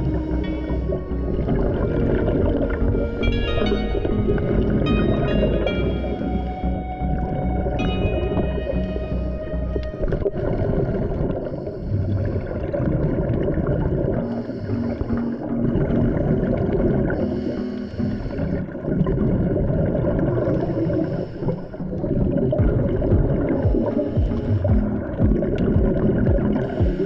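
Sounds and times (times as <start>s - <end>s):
underwater bubbling rumble: 0.0s - 27.0s.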